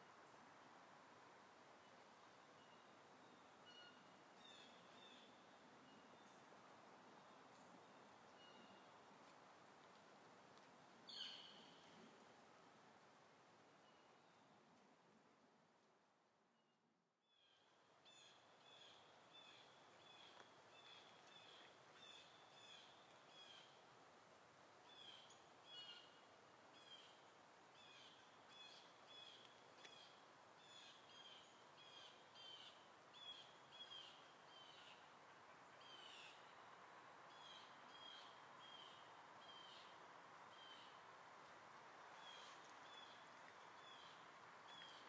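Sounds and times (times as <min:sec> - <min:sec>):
faint background hiss: 0:00.0 - 0:45.0.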